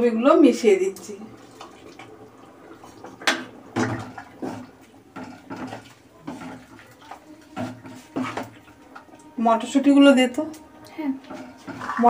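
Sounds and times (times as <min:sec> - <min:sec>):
ladle sloshing in pot: 0:01.0 - 0:12.0.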